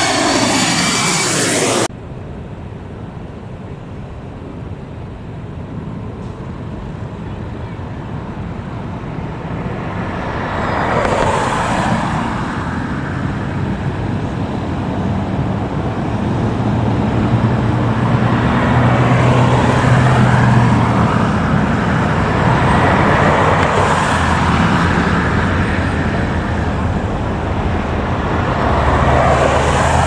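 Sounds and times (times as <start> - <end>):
heavy vehicle engine hum: 0.0 - 30.0
vehicles passing: 0.0 - 30.0.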